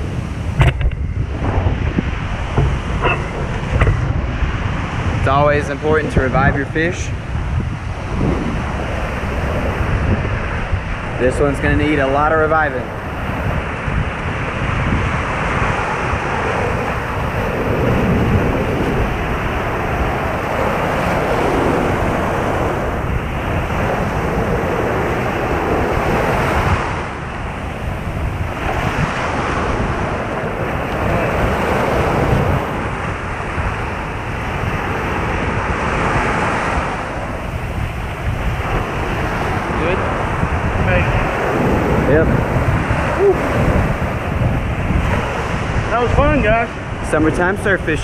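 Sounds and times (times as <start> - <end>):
ocean surf breaking: 0.0 - 48.0.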